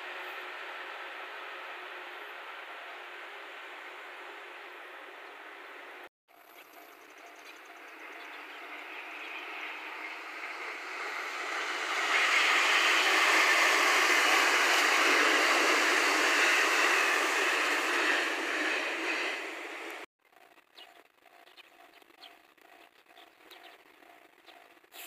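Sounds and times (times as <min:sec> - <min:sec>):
train wheels rolling on rails: 0:00.0 - 0:20.1.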